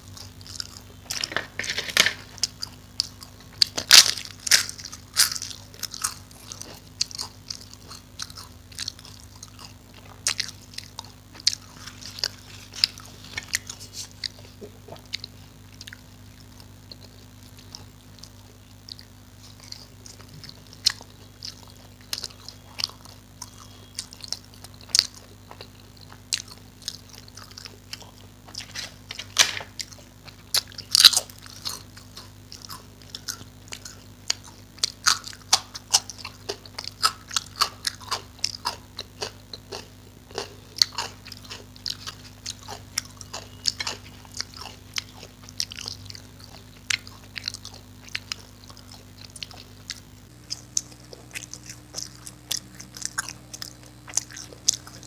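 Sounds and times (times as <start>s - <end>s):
faint low hum: 0.0s - 55.0s
person chewing crunchy food: 0.0s - 55.0s.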